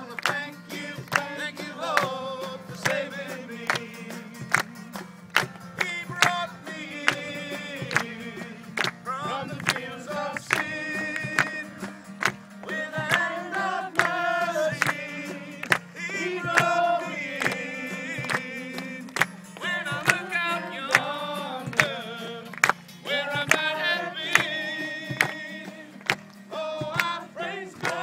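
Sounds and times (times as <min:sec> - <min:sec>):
group singing worship song: 0:00.0 - 0:04.6, 0:05.8 - 0:28.0
acoustic guitar: 0:00.0 - 0:28.0
handclapping on the beat: 0:00.0 - 0:28.0.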